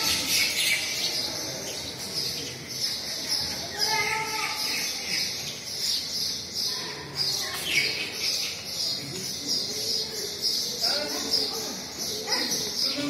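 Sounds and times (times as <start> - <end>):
people talking: 0.0 - 13.0
small birds chirping: 0.0 - 13.0.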